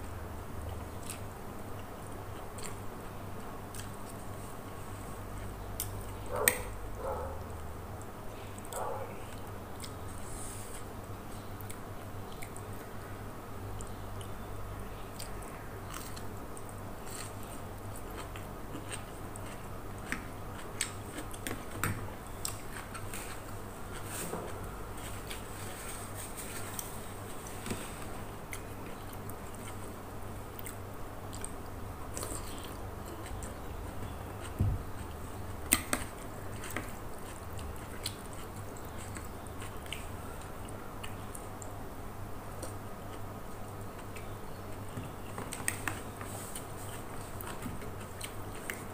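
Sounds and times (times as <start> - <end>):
steady low hum: 0.0 - 48.9
person chewing noodles: 0.7 - 6.3, 8.4 - 12.9, 15.1 - 41.8, 45.5 - 48.9.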